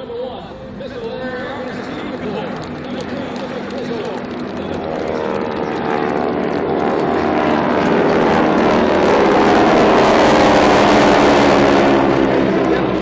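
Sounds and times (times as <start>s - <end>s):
propeller airplane passing by: 0.0s - 13.0s.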